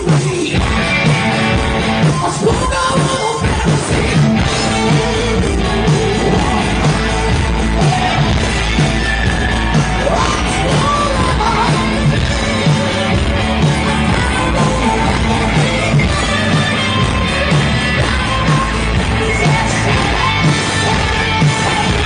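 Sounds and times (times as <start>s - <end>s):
hard rock band playing live: 0.0s - 22.0s
person singing: 0.0s - 22.0s.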